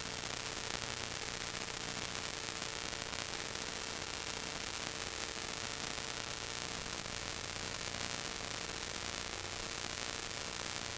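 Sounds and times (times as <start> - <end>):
faint hum: 0.0 - 10.9
static hiss: 0.0 - 10.9.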